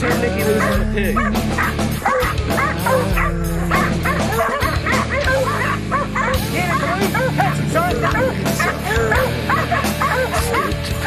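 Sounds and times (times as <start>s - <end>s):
background music low held notes: 0.0s - 11.0s
dogs barking and yipping: 0.1s - 11.0s.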